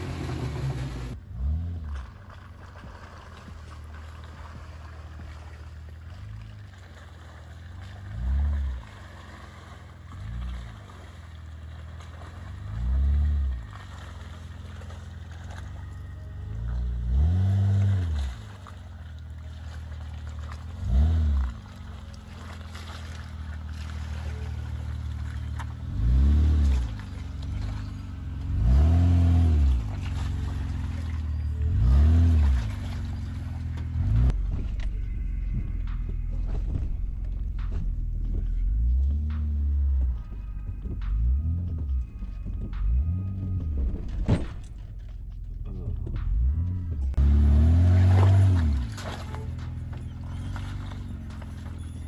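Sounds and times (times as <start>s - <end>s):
car engine crawling through mud: 0.0s - 52.0s.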